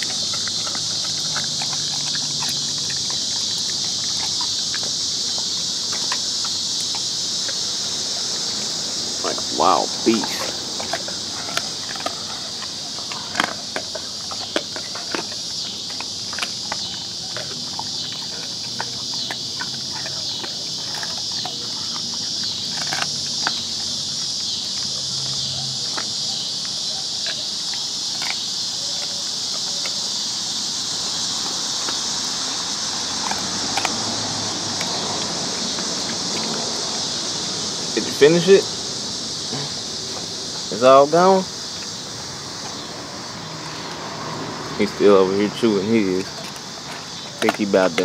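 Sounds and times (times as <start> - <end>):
dogs chewing bones: 0.0 - 48.0
insect chorus: 0.0 - 48.0.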